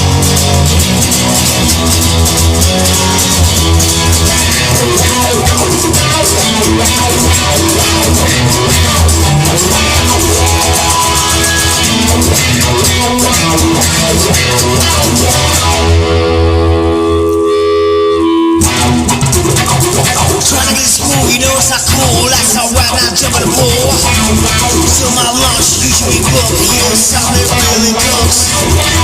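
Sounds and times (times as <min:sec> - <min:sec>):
rock music with guitar and drums: 0:00.0 - 0:29.0.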